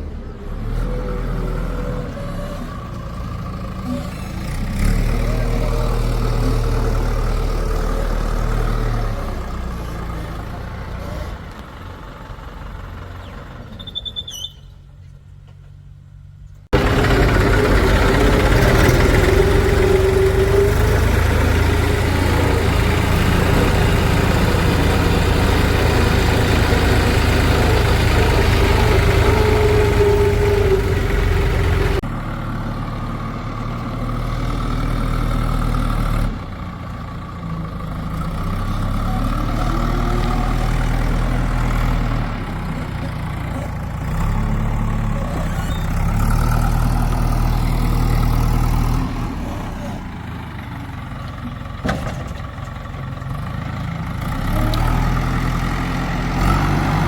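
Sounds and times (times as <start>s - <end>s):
loud engine: 0.0s - 13.8s, 16.7s - 57.0s
diesel machinery engine running: 0.0s - 14.0s, 16.7s - 57.0s.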